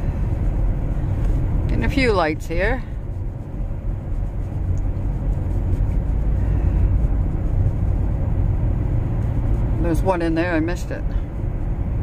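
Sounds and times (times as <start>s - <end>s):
van engine and tyre rumble: 0.0s - 12.0s.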